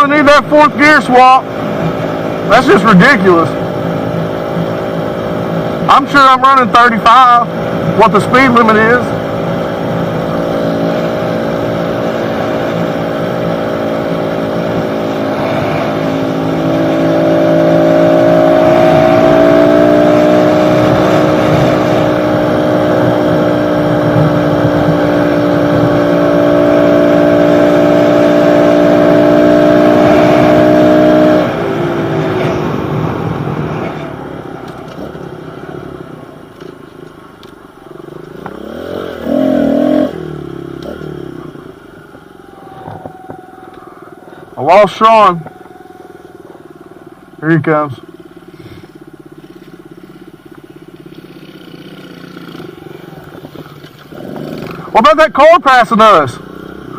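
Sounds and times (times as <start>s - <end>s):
pit bike engine running: 0.0s - 55.2s.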